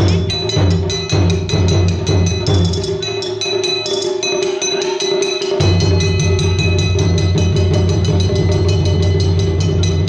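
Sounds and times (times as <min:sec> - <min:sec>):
taiko drums beating: 0:00.0 - 0:10.0.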